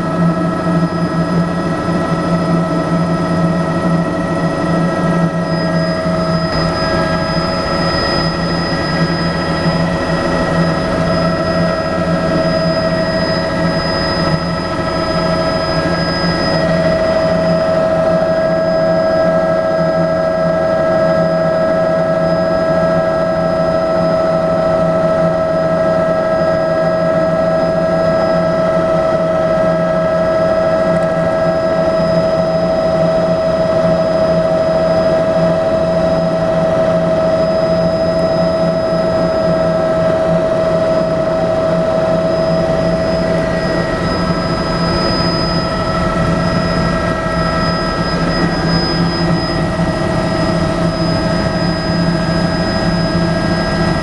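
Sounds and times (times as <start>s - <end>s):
helicopter turbine whine: 0.0s - 54.0s
rotor drone: 0.0s - 54.0s.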